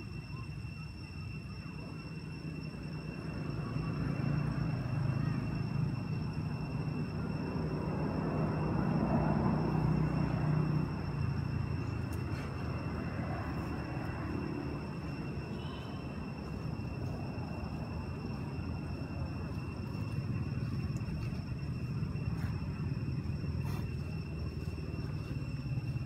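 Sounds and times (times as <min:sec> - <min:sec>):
distant engine rumble: 0:01.5 - 0:26.0.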